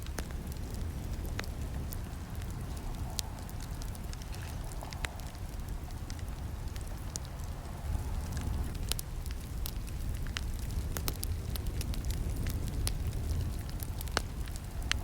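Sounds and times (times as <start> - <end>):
campfire crackling and snapping: 0.0 - 15.0.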